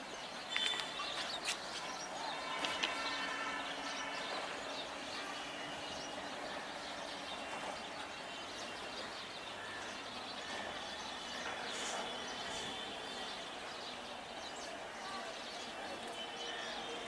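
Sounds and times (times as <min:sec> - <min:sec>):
small birds chirping: 0:00.0 - 0:16.9
outdoor background noise: 0:00.0 - 0:17.0.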